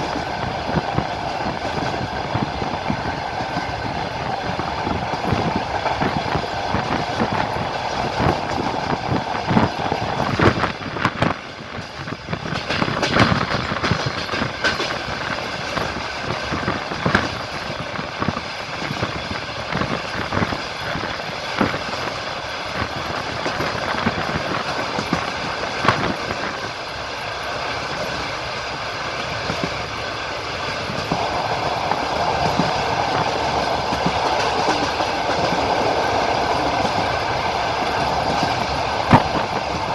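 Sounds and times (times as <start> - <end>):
clacks over rail joints: 0.0 - 39.9
train wheels clattering: 0.0 - 39.9.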